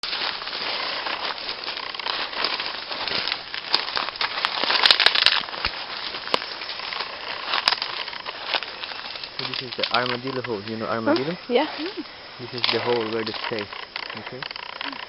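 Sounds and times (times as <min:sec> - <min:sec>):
dense rustling and crackling: 0:00.0 - 0:15.0.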